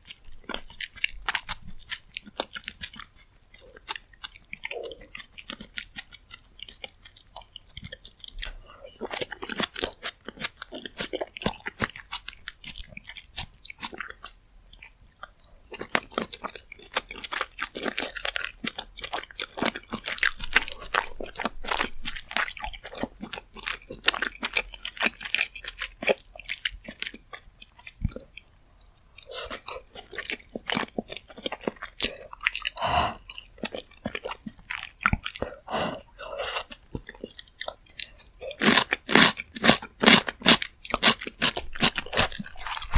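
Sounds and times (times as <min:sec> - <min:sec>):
person chewing with wet mouth sounds: 0:00.0 - 0:42.9.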